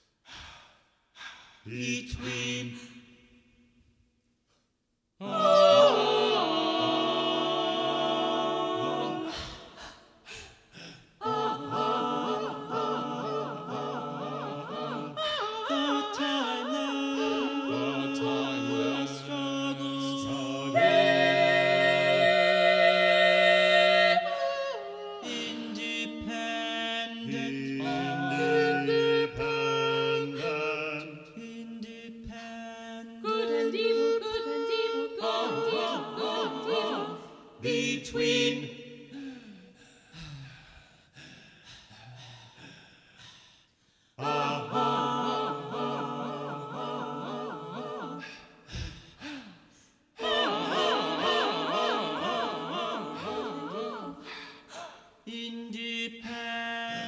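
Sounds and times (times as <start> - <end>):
a cappella choir singing chords: 0.0 - 3.8, 5.2 - 57.0.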